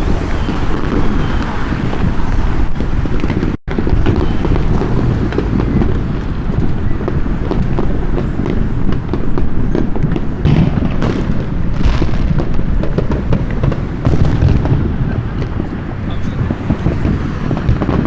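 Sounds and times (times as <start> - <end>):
firecrackers popping: 0.0 - 18.0
fireworks booming: 0.0 - 18.0.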